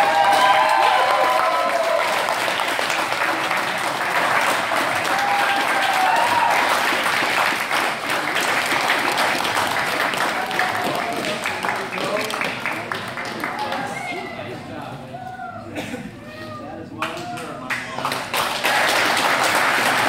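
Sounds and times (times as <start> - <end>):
group clapping: 0.0 - 14.1, 17.0 - 20.0.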